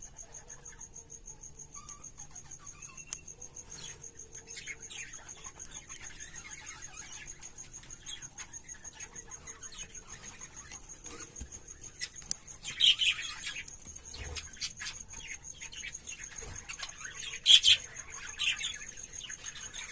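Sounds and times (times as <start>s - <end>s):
budgies chirping: 1.7s - 19.9s.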